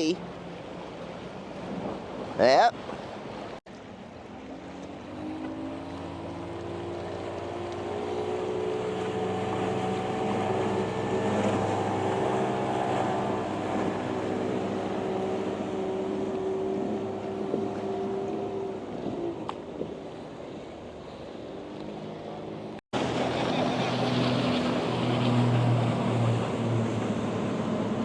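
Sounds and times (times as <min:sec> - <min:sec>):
motorboat engine running: 0:00.0 - 0:28.0
water noise: 0:00.0 - 0:28.0
wind: 0:00.0 - 0:28.0.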